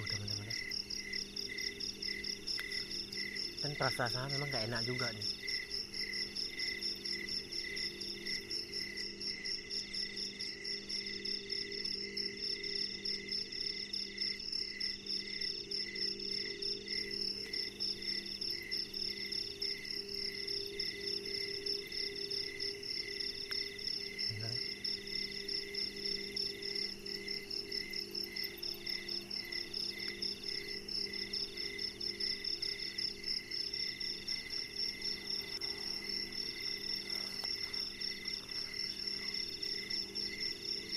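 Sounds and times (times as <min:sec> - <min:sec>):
crickets and insects trilling: 0:00.0 - 0:40.9
insect chirping: 0:00.0 - 0:40.9.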